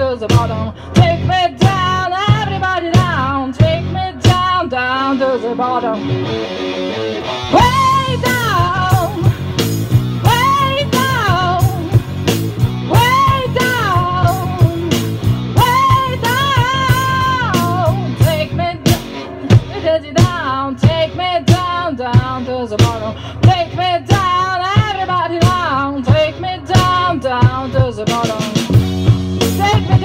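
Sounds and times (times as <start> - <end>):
woman singing into microphone: 0.0 - 6.3, 7.5 - 9.3, 10.2 - 12.0, 12.9 - 28.7, 29.5 - 30.0
guitar accompaniment: 0.0 - 30.0.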